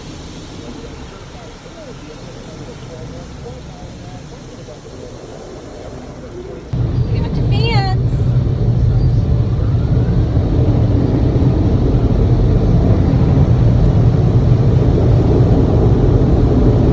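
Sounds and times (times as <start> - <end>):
low rumble inside car: 0.0 - 16.9.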